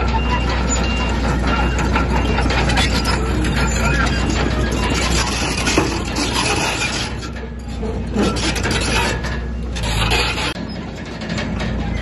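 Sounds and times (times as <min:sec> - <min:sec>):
bulldozer engine rumble: 0:00.0 - 0:12.0
metallic clanking and scraping: 0:00.0 - 0:12.0.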